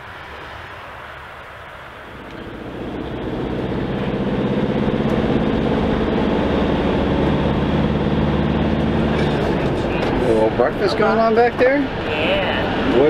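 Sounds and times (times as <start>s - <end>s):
diesel engine running: 1.0s - 13.0s.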